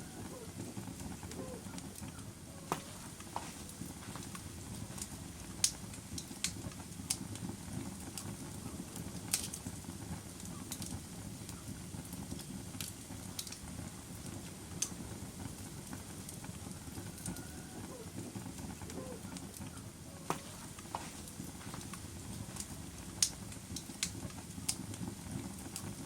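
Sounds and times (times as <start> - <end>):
fire crackling and popping: 0.0 - 26.0
log fire flames rumbling: 0.0 - 26.0.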